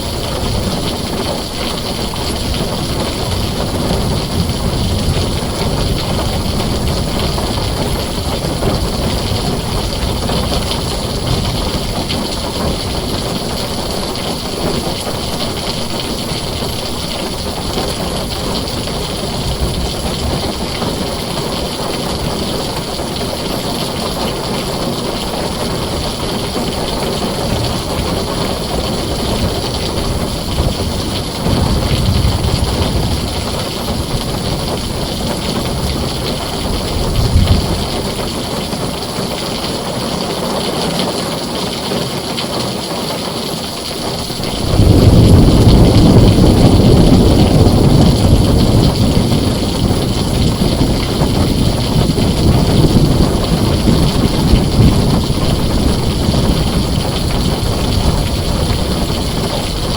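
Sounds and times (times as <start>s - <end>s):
thunder rumbling: 0.0s - 40.3s, 43.9s - 59.9s
heavy rain on a tin roof: 0.0s - 59.9s.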